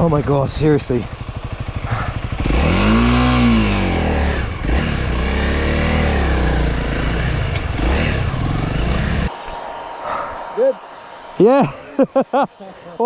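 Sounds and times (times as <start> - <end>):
dirt bike engine revving: 0.0 - 12.6.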